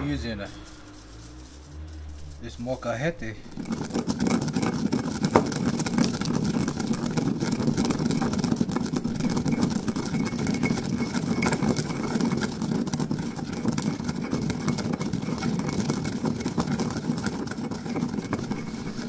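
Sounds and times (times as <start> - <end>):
stone pestle grinding peppercorns: 0.1 - 19.0.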